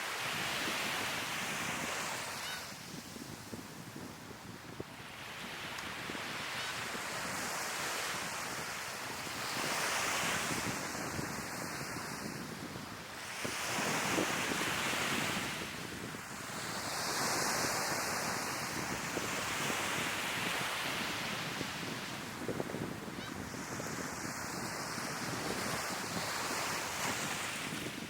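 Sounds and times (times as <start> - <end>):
sea waves breaking on shore: 0.0 - 28.0
wind on microphone: 0.1 - 28.0.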